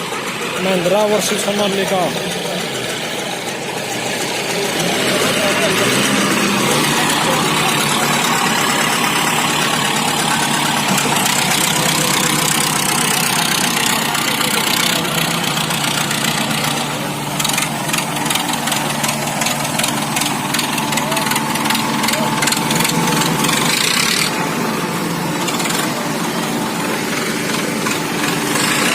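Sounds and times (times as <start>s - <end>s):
diesel tractor engines running: 0.0s - 28.9s.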